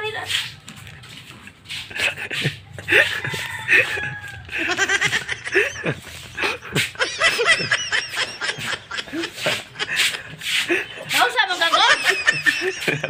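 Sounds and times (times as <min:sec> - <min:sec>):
person laughing: 0:01.8 - 0:13.0.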